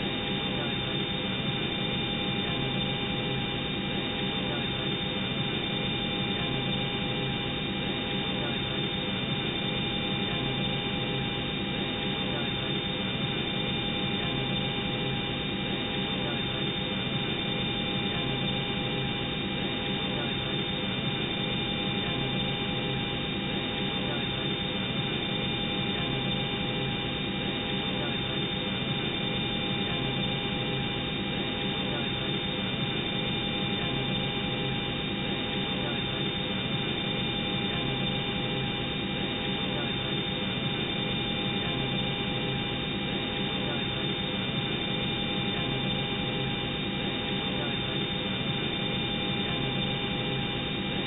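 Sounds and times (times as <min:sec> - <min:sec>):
faint steady tones: 0:00.0 - 0:51.0.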